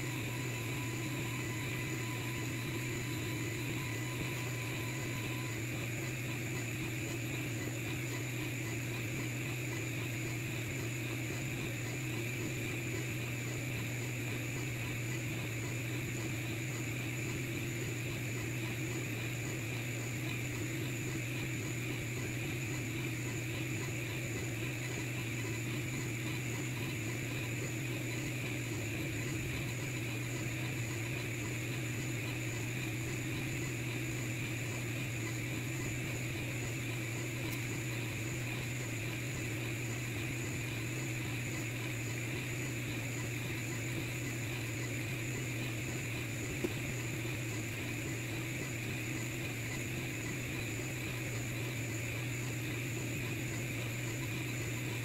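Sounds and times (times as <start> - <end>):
laser engraver humming: 0.0 - 55.0.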